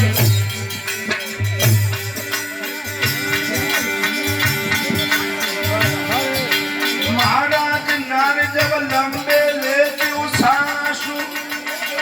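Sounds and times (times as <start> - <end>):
drum beating: 0.0 - 12.0
shaken rattle percussion: 0.0 - 12.0.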